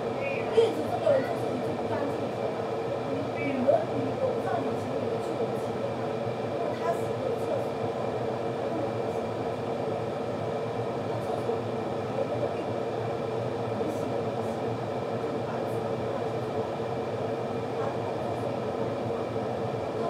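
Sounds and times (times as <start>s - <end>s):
kettle heating water: 0.0s - 20.0s.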